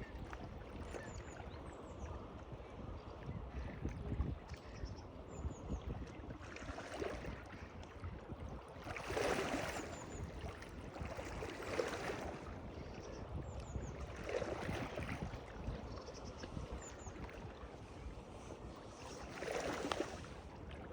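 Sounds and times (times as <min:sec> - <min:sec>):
water lapping and splashing: 0:00.0 - 0:20.9.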